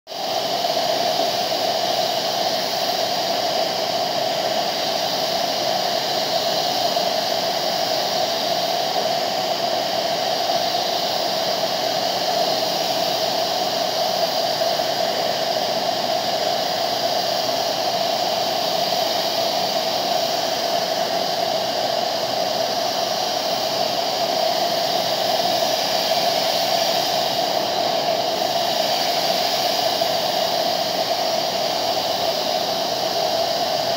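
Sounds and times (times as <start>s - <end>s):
paint spray gun hissing: 0.1s - 33.9s.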